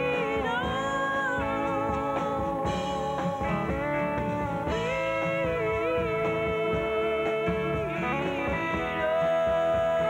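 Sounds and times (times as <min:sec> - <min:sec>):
rock music with sliding notes: 0:00.0 - 0:10.0.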